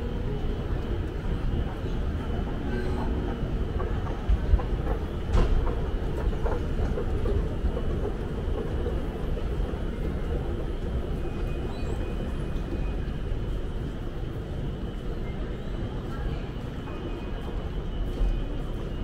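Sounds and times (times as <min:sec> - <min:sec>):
low rumble of train station: 0:00.0 - 0:19.0.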